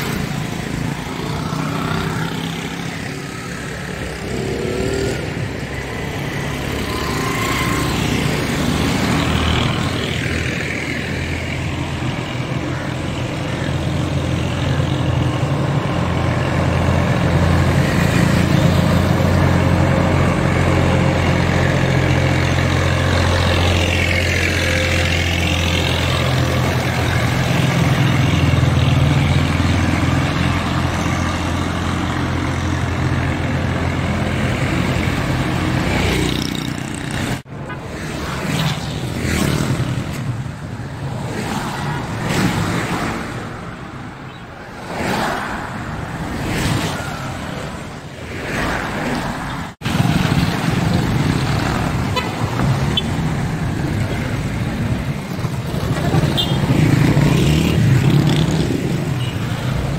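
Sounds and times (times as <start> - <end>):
traffic on a wet road: 0.0 - 59.9.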